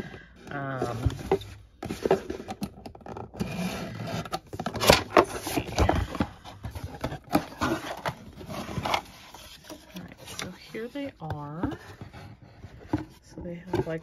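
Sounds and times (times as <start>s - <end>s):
cardboard box handled and opened: 0.0s - 14.0s.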